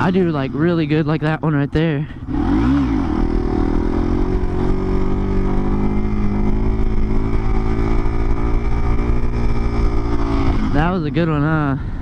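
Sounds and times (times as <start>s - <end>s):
motorcycle engine at steady rev: 0.0s - 12.0s.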